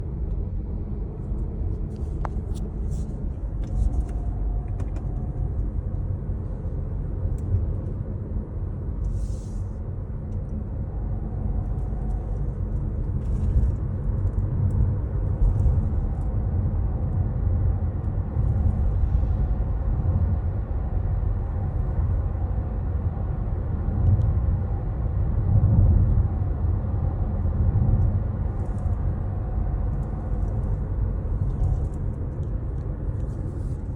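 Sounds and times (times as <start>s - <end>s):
car running rumble: 0.0s - 33.9s.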